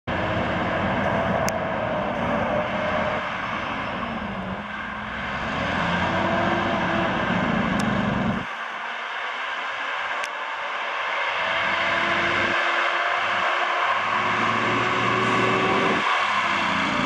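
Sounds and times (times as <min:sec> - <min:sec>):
diesel truck engine accelerating: 0:00.0 - 0:17.0.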